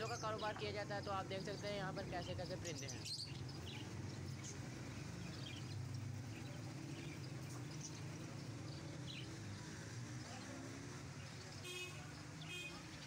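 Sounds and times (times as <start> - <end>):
caged birds chirping: 0.0 - 13.0
street background rumble: 0.0 - 13.0.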